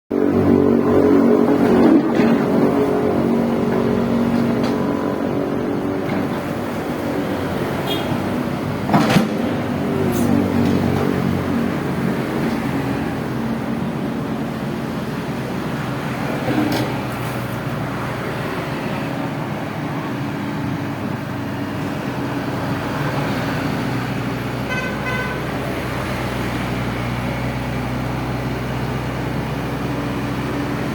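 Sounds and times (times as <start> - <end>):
excavator diesel engine running: 0.2 - 30.9.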